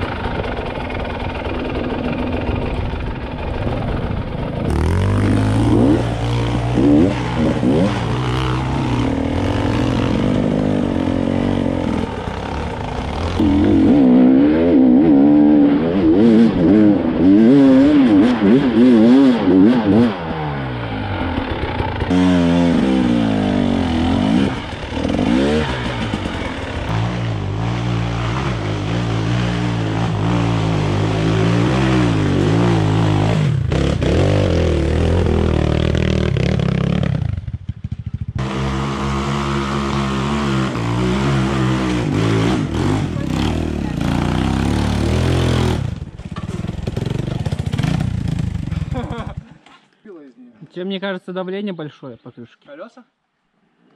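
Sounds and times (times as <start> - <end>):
two-stroke motorcycle engine revving: 0.0 - 49.4.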